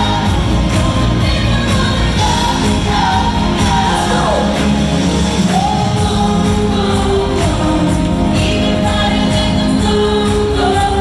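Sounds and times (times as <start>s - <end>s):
choir singing: 0.0s - 11.0s
full band playing pop: 0.0s - 11.0s
woman singing lead vocals: 0.0s - 11.0s.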